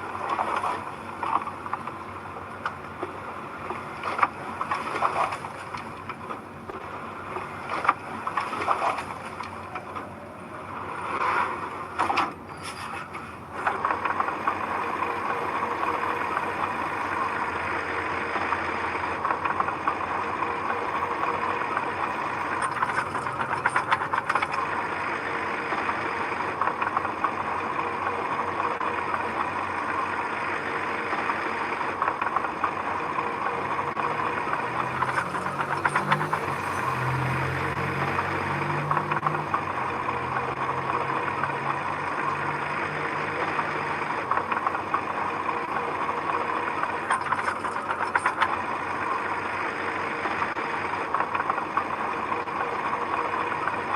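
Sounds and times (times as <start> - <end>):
construction machine engine running: 0.0 - 53.9.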